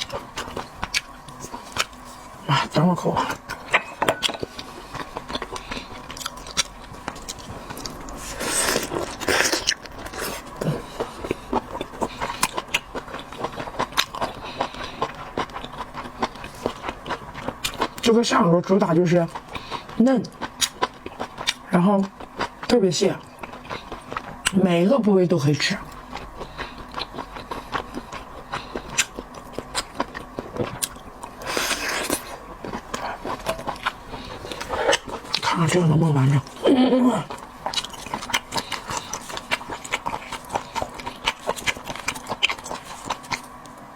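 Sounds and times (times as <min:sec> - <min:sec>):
person chewing wet smacks: 0:00.0 - 0:18.2, 0:18.8 - 0:24.7, 0:25.9 - 0:43.7.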